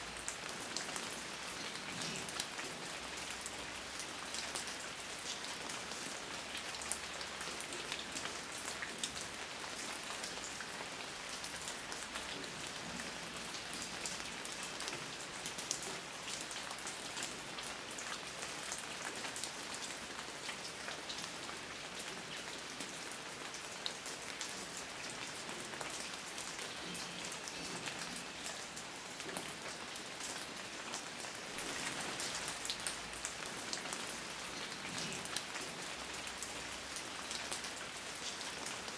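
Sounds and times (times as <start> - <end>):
raindrops pattering: 0.0 - 38.9
steady rain hiss: 0.0 - 38.9.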